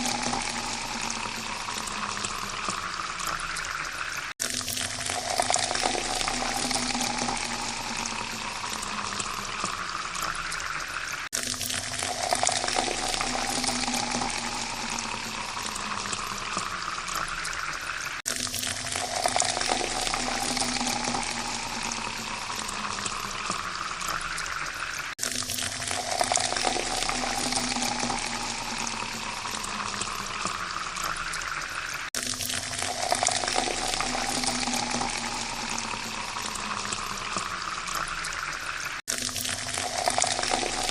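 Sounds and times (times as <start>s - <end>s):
water pouring into a glass: 0.0s - 40.9s.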